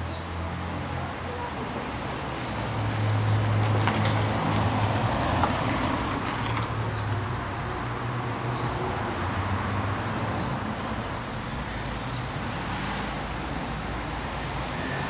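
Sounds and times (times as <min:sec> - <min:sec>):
engine hum of traffic: 0:00.0 - 0:15.0.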